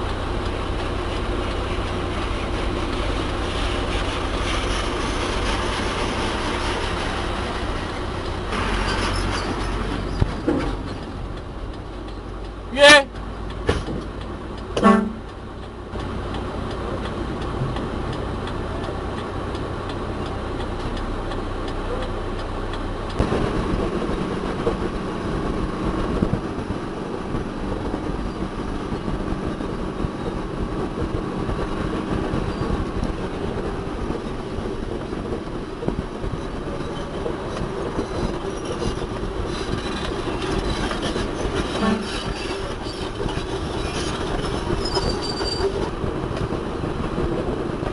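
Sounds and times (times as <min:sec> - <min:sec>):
diesel engine running with rattle: 0:00.0 - 0:47.9.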